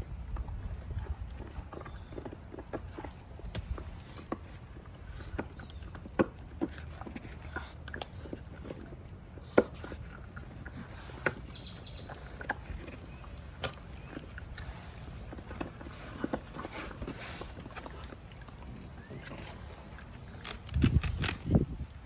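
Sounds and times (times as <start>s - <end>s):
puppy paws clicking and tapping: 0.3s - 21.7s.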